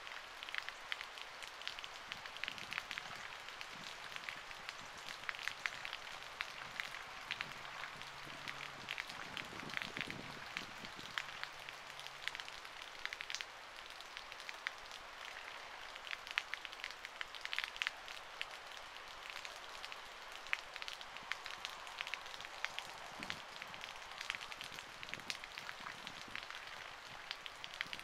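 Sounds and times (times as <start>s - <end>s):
rain falling steadily: 0.0s - 28.0s
sharp raindrop ticks: 0.1s - 28.0s.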